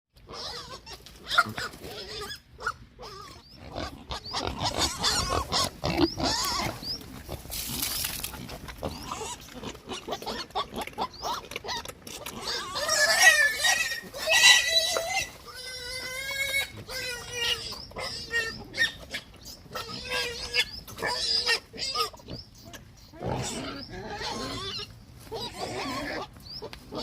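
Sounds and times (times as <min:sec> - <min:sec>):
pigs grunting: 0:00.2 - 0:27.0
pigs squealing: 0:00.2 - 0:27.0.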